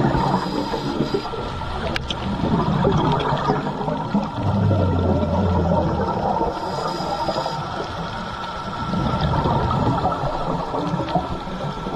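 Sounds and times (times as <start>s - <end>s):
underwater regulator bubbles: 0.0s - 11.9s.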